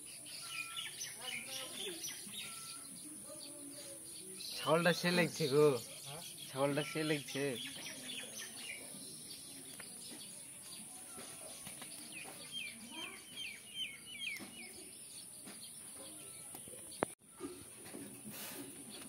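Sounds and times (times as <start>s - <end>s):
small bird chirping: 0.0s - 17.2s.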